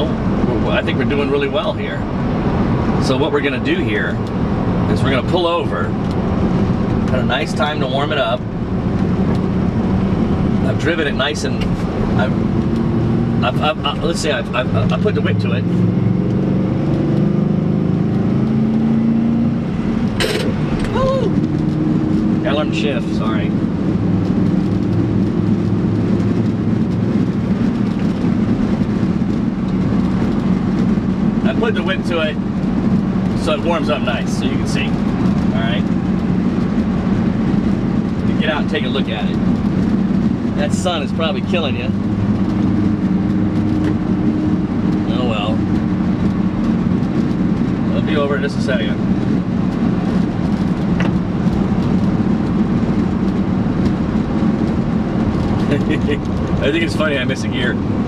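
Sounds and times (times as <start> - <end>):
engine drone inside cab: 0.0 - 58.0
road noise: 0.0 - 58.0.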